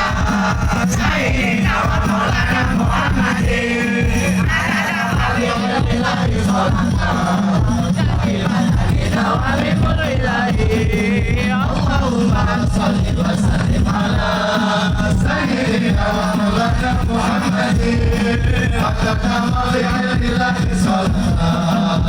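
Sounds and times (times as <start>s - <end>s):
dense drumming: 0.0s - 22.0s
voices singing in chorus: 0.0s - 22.0s.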